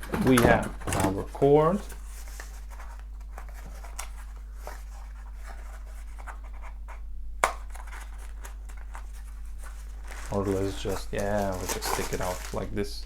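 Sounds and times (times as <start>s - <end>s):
packaging being handled: 0.0s - 13.0s
steady low hum: 0.0s - 13.0s.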